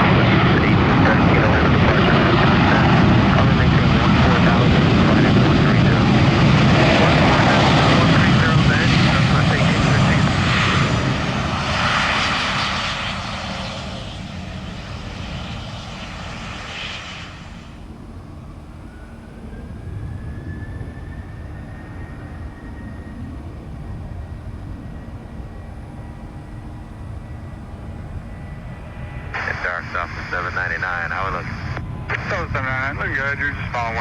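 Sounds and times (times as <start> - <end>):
steady low rumble: 0.0 - 18.2, 23.2 - 34.0
jet airliner engines: 0.0 - 34.0.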